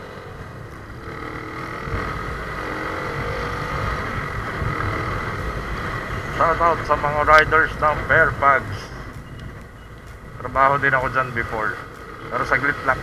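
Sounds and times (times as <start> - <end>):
wind on microphone: 0.0 - 10.5
motorcycle engine running: 0.0 - 13.0.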